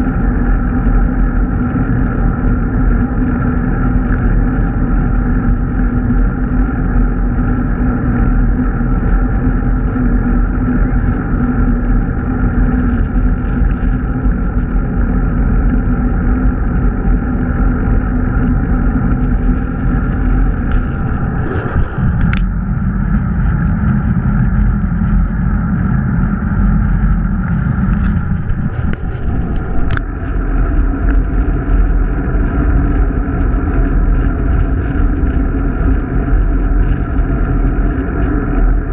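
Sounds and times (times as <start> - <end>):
road noise: 0.0 - 38.9
wind rush: 0.0 - 38.9.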